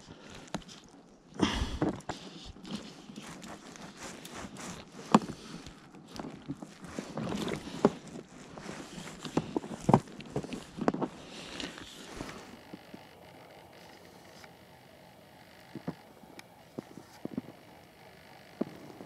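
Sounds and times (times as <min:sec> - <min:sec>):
rustling of cloth and fishing line: 0:00.0 - 0:19.0.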